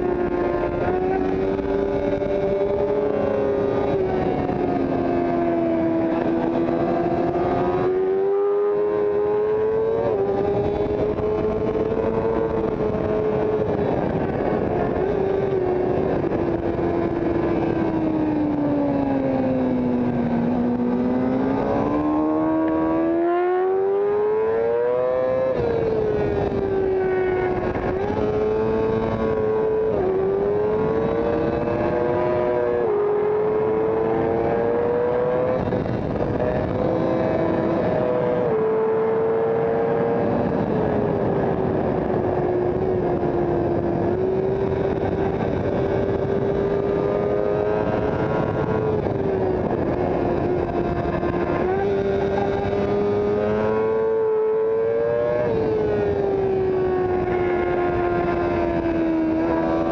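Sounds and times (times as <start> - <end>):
motorcycle engine at speed: 0.0 - 59.9
wind rush: 0.0 - 59.9.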